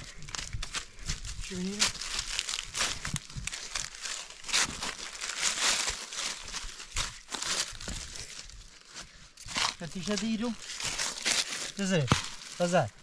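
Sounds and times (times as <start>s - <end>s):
footsteps on dry leaves: 0.0s - 13.0s
hand tool digging ground: 0.0s - 13.0s.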